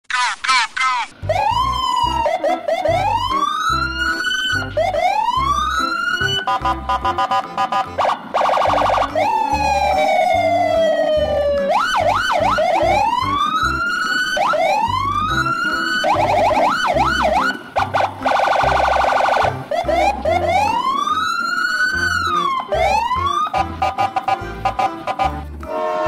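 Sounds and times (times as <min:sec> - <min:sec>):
electronic siren wailing and yelping: 0:00.1 - 0:25.5
low beat: 0:01.2 - 0:26.0.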